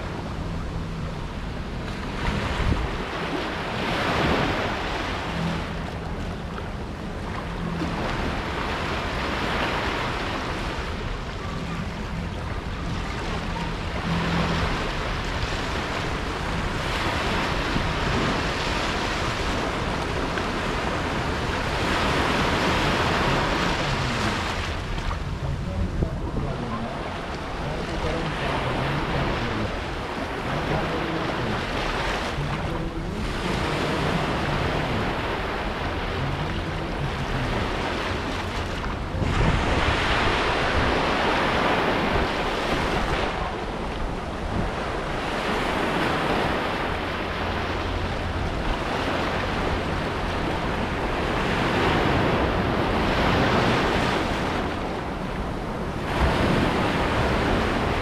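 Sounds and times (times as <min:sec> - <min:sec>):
waves washing over sand and rocks: 0:00.0 - 0:58.0
wind rumble on microphone: 0:00.0 - 0:58.0.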